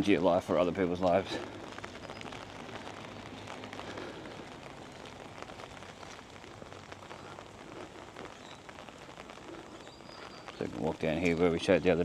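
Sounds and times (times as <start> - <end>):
rain falling: 0.0 - 12.0
raindrops pattering nearby: 0.0 - 12.0.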